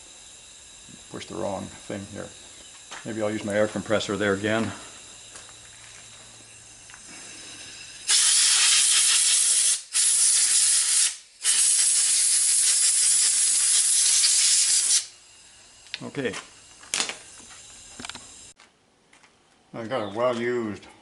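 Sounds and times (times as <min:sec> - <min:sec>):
compressed air blow gun hissing: 0:00.0 - 0:18.6.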